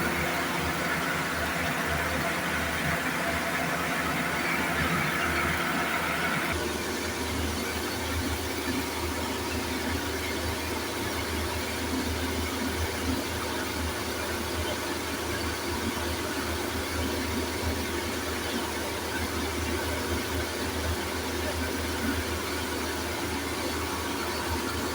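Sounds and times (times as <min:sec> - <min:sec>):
diesel engine drone: 0:00.0 - 0:24.9.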